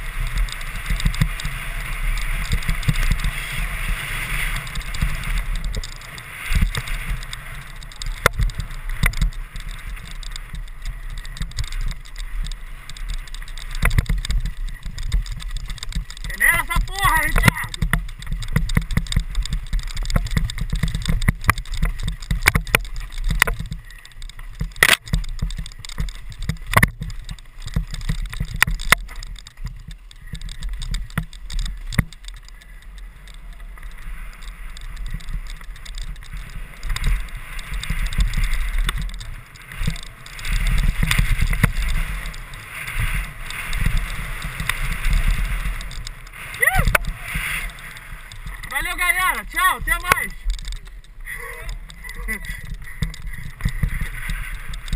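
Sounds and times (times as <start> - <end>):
bike knocking over bumps: 0.0 - 54.9.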